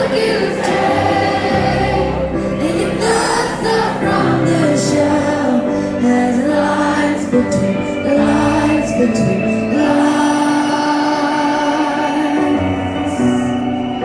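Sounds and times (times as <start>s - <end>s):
live band playing slow song: 0.0s - 14.0s
people singing: 0.0s - 14.0s.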